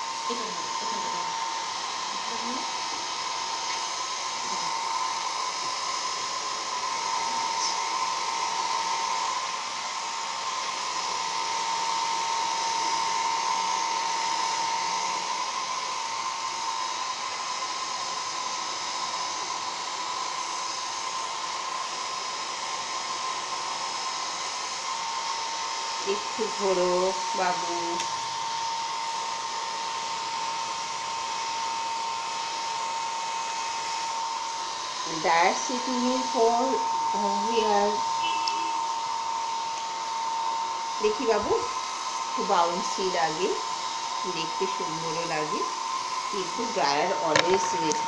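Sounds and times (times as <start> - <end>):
hair dryer running: 0.0 - 48.0.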